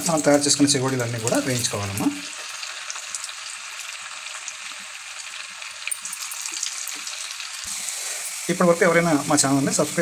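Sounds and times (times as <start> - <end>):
dough deep-frying in oil: 0.0 - 10.0
oil crackles: 0.0 - 10.0.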